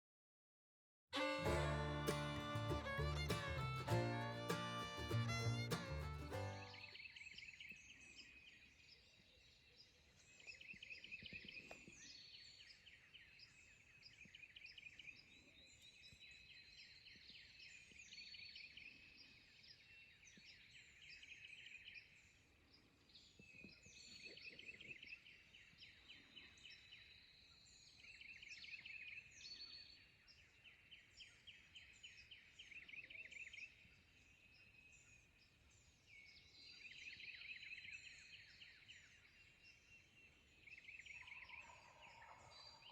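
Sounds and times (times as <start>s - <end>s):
faint songbirds singing: 6.2s - 42.9s.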